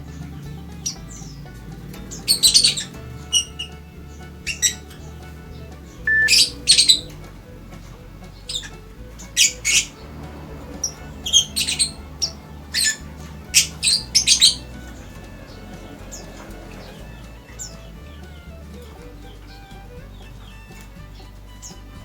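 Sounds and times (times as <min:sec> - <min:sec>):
small bird harsh calls: 0:00.0 - 0:22.0.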